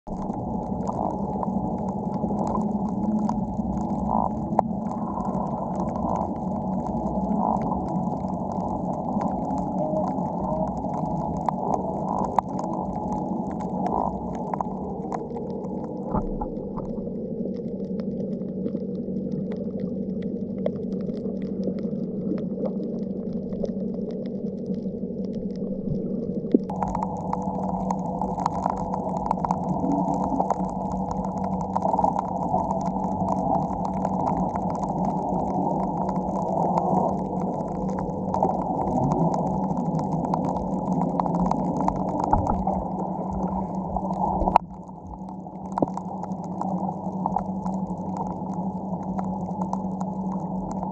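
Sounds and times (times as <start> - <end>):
muffled underwater rumble: 0.0 - 50.9
faint crackling ticks: 0.1 - 50.9.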